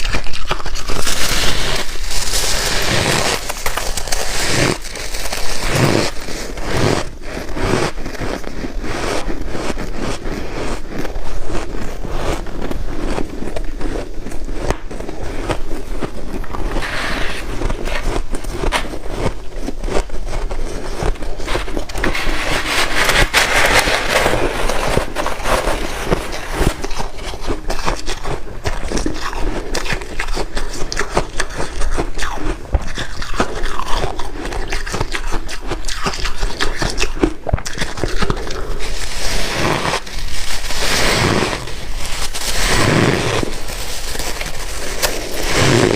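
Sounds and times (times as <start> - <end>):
person chewing ice: 0.0 - 45.9.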